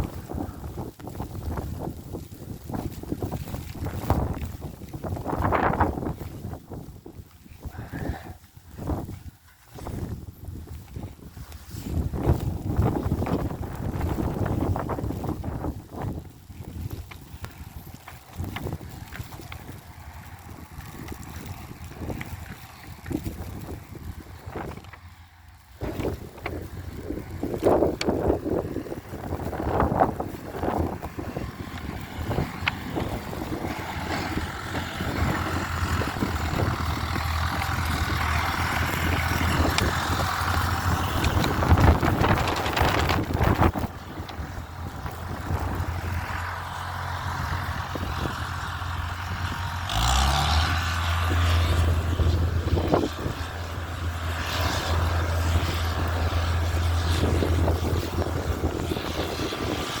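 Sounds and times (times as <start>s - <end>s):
engine running: 0.0s - 60.0s.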